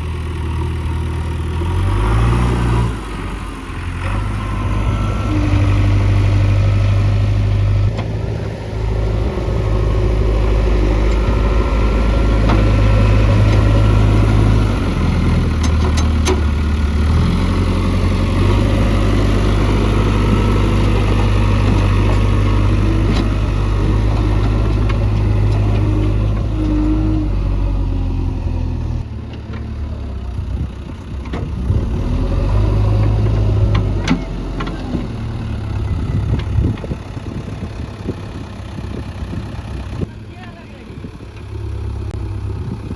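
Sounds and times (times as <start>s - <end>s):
backhoe diesel engine digging: 0.0s - 42.9s.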